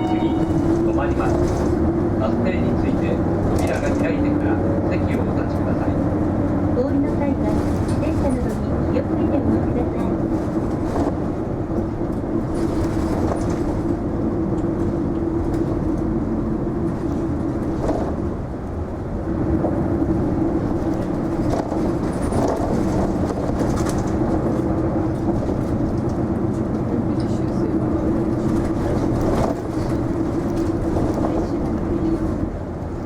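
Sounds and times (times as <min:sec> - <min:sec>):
bus engine and road drone: 0:00.0 - 0:33.0.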